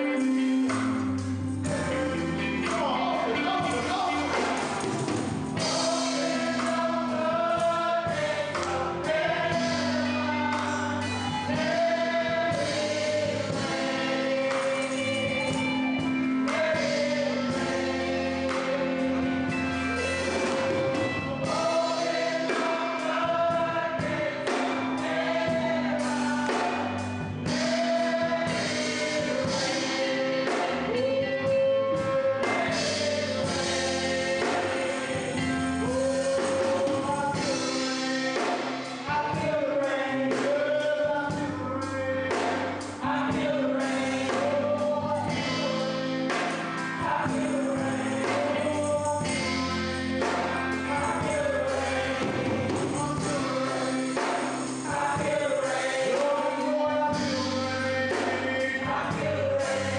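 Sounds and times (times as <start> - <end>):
gospel choir singing: 0.0 - 59.9
live band accompaniment: 0.0 - 59.9.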